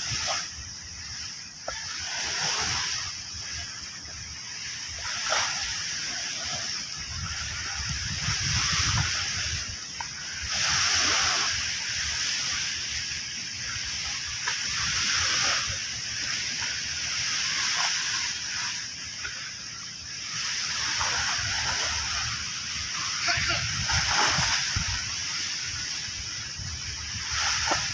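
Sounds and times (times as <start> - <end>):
sea waves washing onto shore: 0.0 - 27.9.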